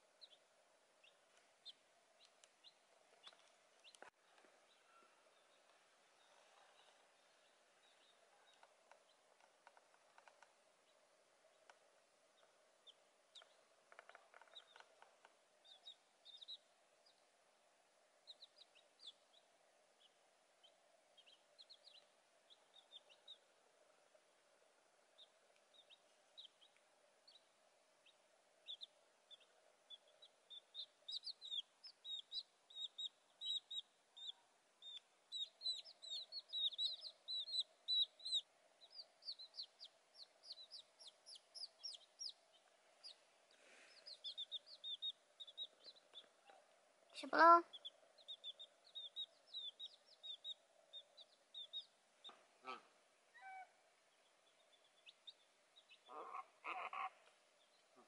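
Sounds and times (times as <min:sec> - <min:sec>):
faint background noise: 0:00.0 - 0:58.0
baby chick peeping: 0:00.1 - 0:17.3, 0:18.0 - 0:58.0.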